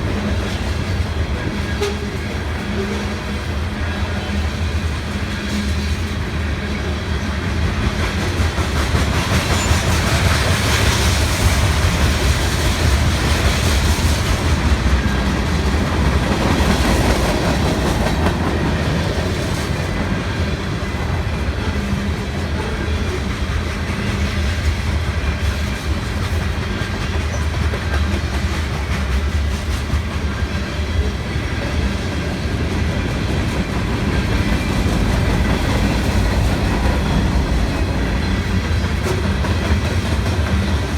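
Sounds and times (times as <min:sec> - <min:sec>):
train heavy low rumble: 0:00.0 - 0:40.9
train wheels clickety-clack: 0:00.0 - 0:40.9.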